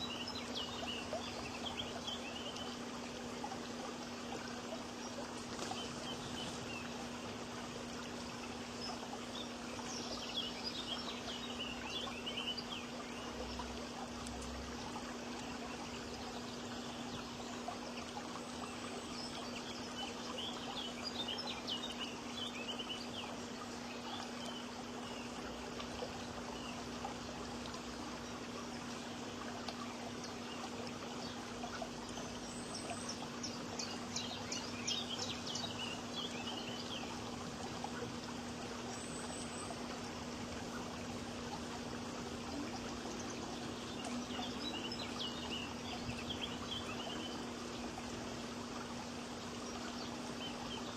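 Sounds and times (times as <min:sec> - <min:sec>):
constant low hum: 0:00.0 - 0:50.9
running water: 0:00.0 - 0:50.9
songbirds chirping: 0:00.0 - 0:50.9.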